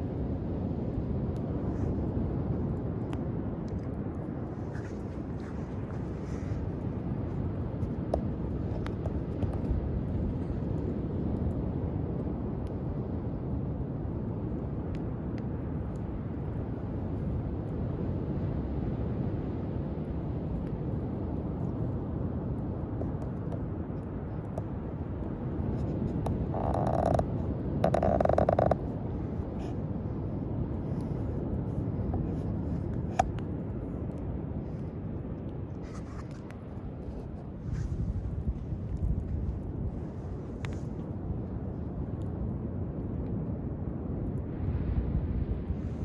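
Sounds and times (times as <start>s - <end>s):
campfire crackling: 0.0s - 46.0s
low rushing fire noise: 0.0s - 46.0s.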